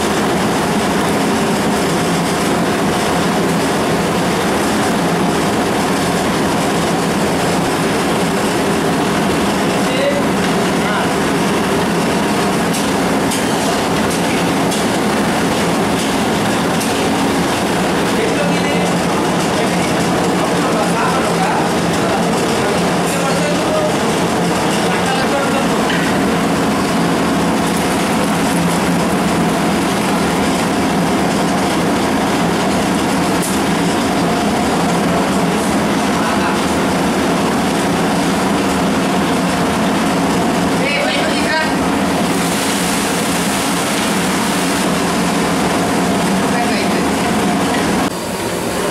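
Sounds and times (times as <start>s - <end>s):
kitchen roar: 0.0s - 48.9s
loud mechanical drone: 0.0s - 48.9s.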